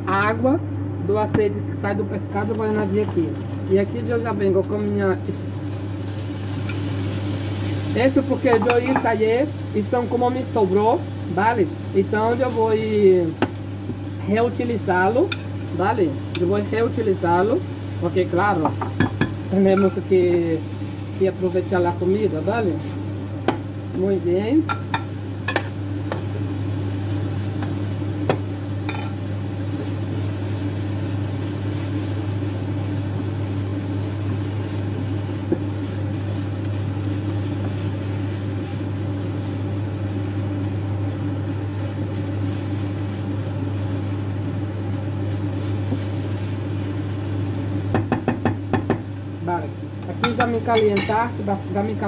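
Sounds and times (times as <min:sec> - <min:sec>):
kitchen appliance humming: 0:00.0 - 0:52.0.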